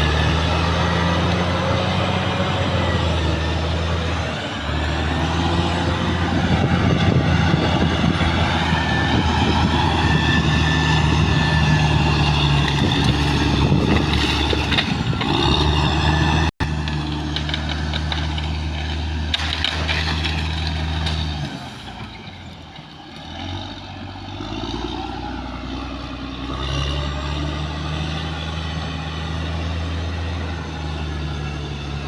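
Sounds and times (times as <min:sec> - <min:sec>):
bulldozer diesel engine under load: 0:00.0 - 0:32.0.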